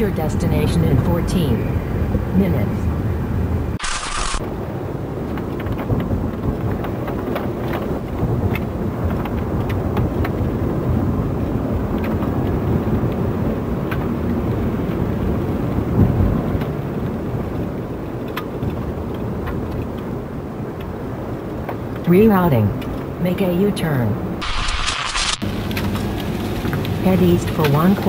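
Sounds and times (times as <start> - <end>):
car tyres and engine rumble: 0.0 - 24.4, 25.2 - 28.0.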